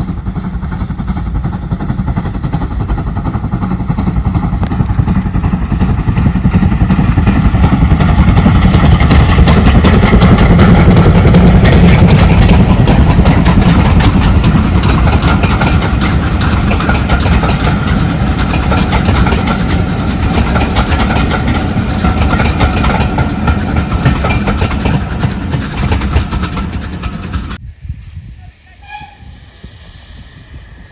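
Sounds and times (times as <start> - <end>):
train clattering past: 0.0 - 27.6.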